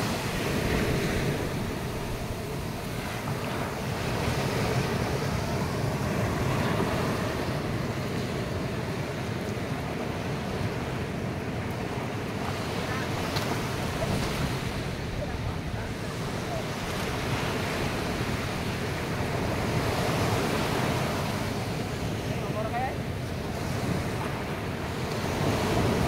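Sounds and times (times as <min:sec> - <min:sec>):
ocean surf breaking: 0:00.0 - 0:26.0.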